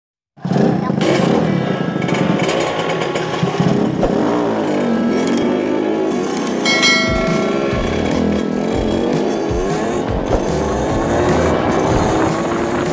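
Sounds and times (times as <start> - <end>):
motorcycle engines buzzing: 0.4 - 12.9.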